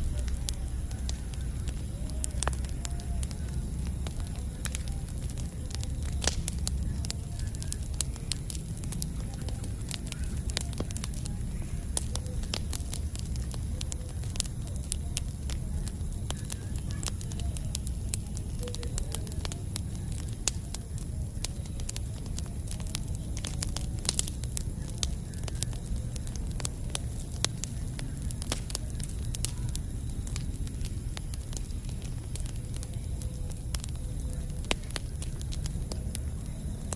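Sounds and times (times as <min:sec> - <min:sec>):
burning wood crackling and popping: 0:00.0 - 0:36.9
rumble of campfire flames: 0:00.0 - 0:36.9.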